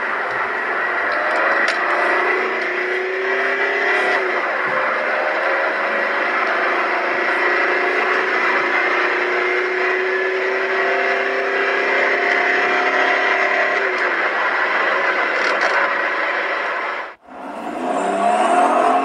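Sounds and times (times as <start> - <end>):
diesel engine accelerating: 0.0 - 19.0.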